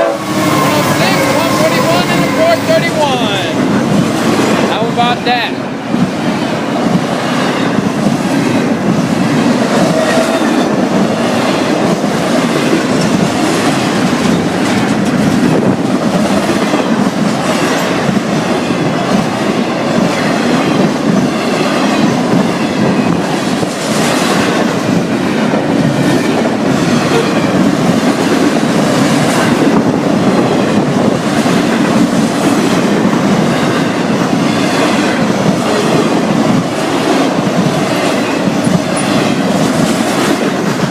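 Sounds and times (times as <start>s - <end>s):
freight train cars rolling past: 0.0s - 40.9s
wheels clacking over rail joints: 6.0s - 40.9s.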